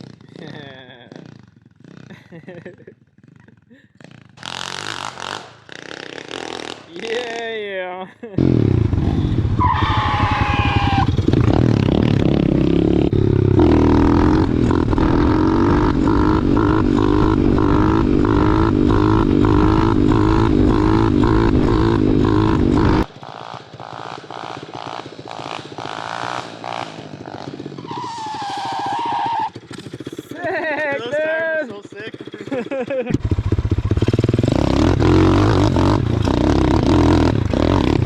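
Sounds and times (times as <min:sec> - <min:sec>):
motorcycle engine revving: 0:00.0 - 0:07.3, 0:08.4 - 0:38.0.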